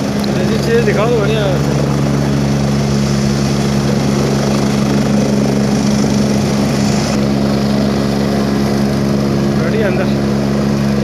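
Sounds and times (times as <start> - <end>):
helicopter running: 0.0 - 11.0.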